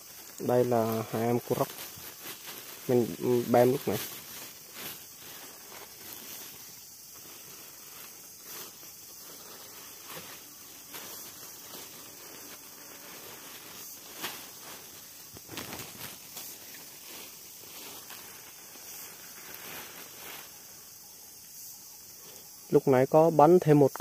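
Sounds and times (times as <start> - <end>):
faint hiss: 0.0 - 24.0.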